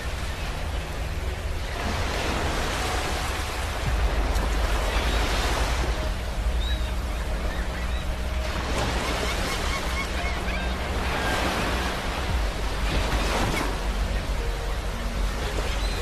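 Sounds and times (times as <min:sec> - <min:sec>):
ocean waves washing on beach: 0:00.0 - 0:16.0.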